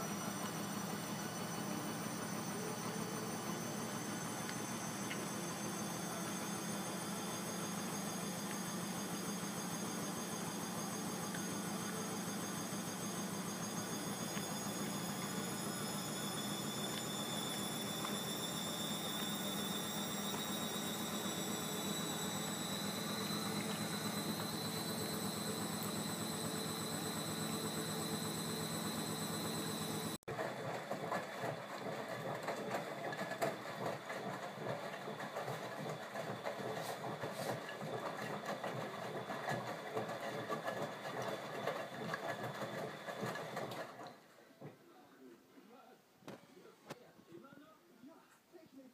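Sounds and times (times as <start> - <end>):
washing machine churning: 0.0 - 44.2
washing machine motor whine: 0.0 - 44.2.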